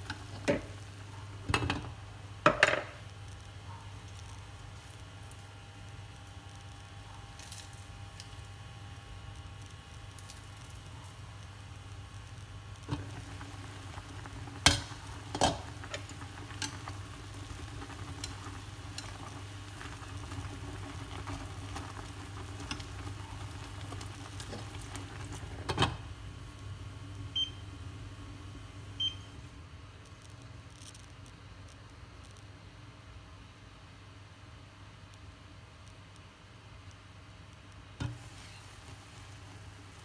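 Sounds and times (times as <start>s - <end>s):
pot boiling: 0.0s - 30.7s, 37.7s - 40.0s.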